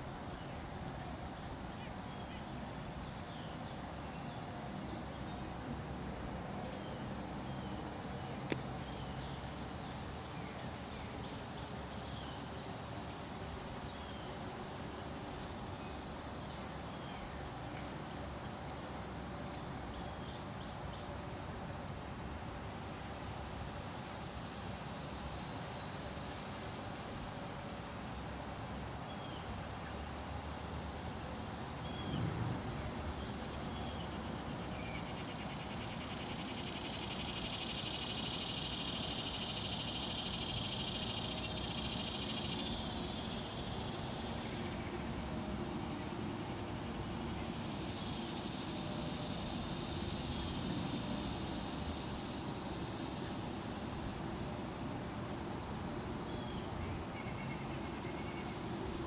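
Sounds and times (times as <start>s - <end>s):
low background noise: 0.0s - 59.0s.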